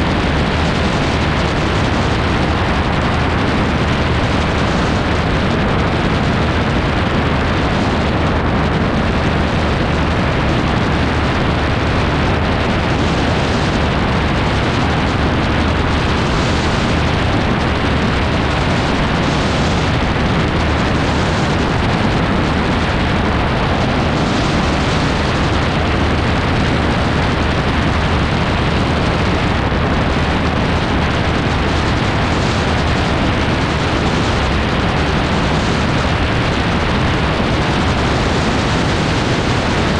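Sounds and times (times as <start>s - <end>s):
aircraft engine and propeller: 0.0s - 39.9s
wind rushing over microphone: 0.0s - 39.9s.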